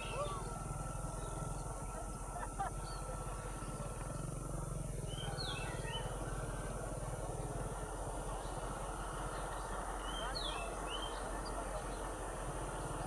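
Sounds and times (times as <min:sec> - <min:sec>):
diesel locomotive engine throbbing: 0:00.0 - 0:13.0.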